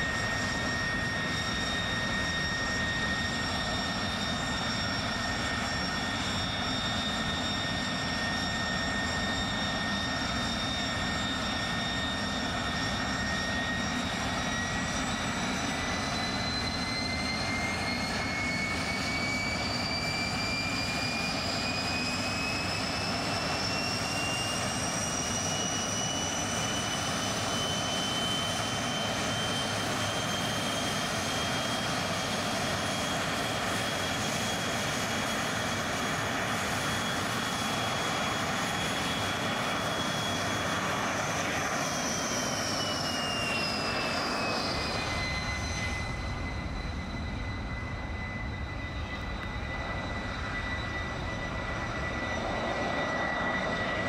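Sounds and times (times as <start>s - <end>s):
jet engine roaring with whine: 0.0s - 54.0s.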